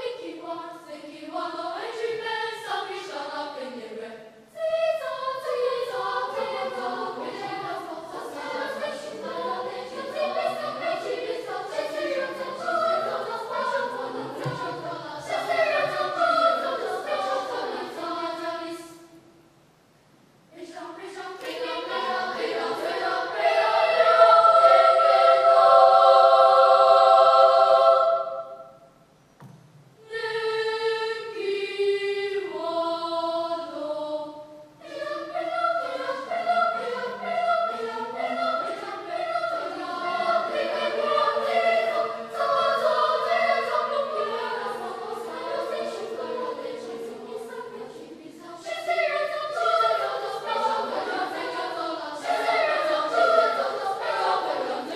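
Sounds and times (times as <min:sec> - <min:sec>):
children's choir singing: 0:00.0 - 0:19.2, 0:20.5 - 0:54.9.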